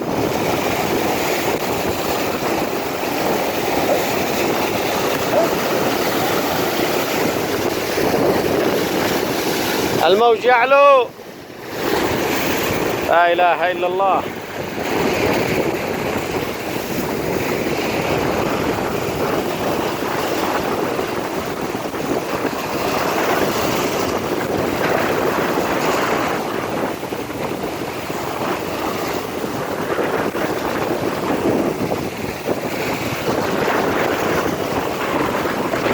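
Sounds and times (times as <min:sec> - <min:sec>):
waves breaking: 0:00.0 - 0:35.9
wind buffeting microphone: 0:00.0 - 0:35.9.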